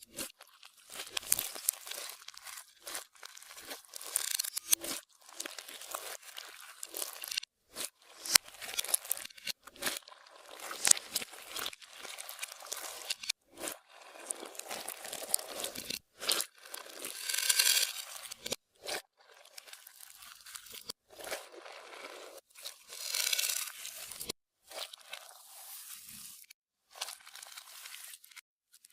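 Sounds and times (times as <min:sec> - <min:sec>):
slime squishing: 0:00.1 - 0:25.5.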